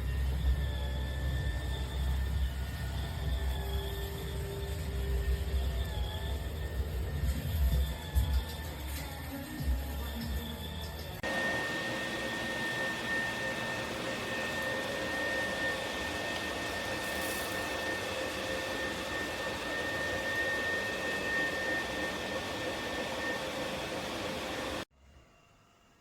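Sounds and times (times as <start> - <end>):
electric spin mop whirring: 0.0 - 24.9.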